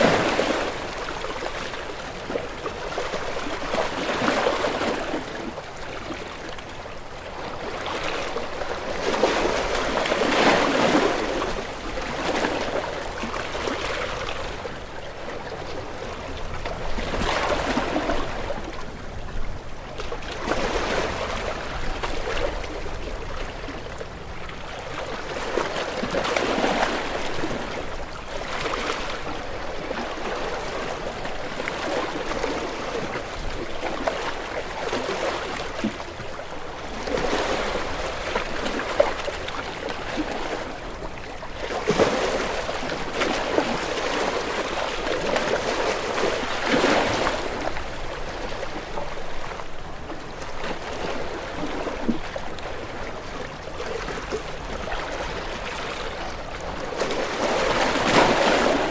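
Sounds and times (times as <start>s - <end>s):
sea waves breaking: 0.0s - 58.9s.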